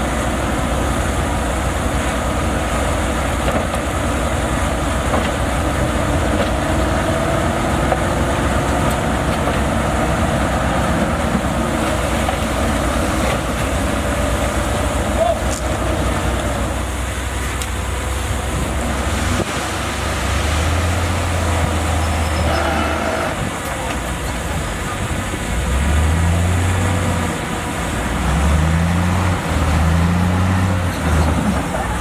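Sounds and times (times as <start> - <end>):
diesel engine of earthmoving machine: 0.0 - 32.0.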